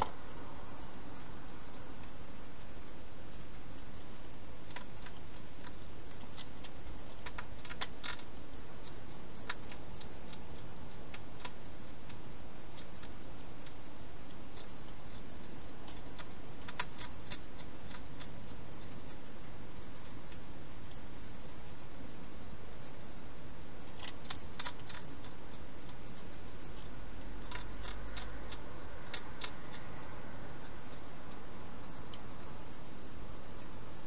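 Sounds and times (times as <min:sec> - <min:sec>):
hedgehog chewing clicks and crunches: 0:01.2 - 0:34.0.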